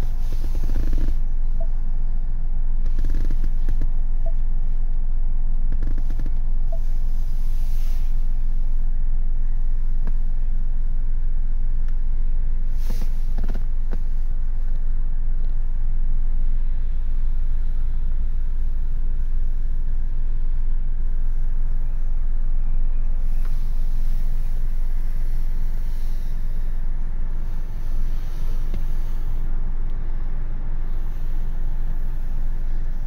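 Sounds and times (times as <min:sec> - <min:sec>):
car engine idling in cabin: 0:00.0 - 0:33.0.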